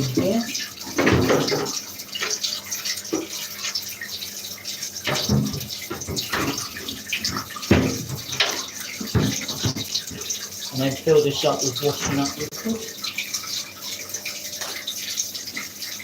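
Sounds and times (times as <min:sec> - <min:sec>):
tap running water into tub: 0:00.0 - 0:16.0.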